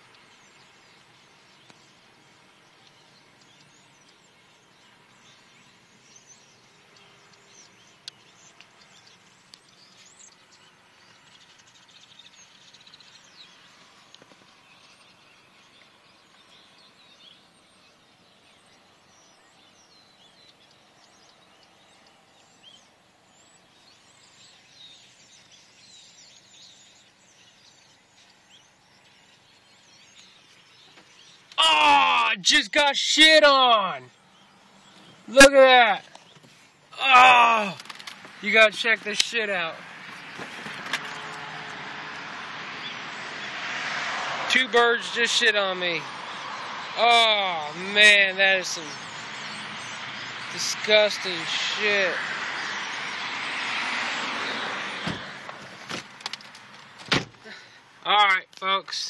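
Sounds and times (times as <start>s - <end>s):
flock of birds chirping: 0.0s - 59.0s.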